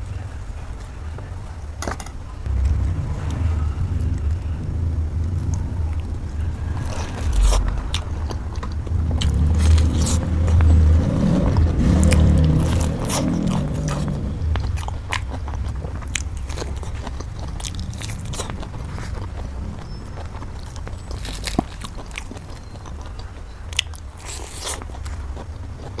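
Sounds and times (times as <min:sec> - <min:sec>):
low hum: 0:00.0 - 0:24.2
biting and chewing fruit: 0:01.8 - 0:26.0.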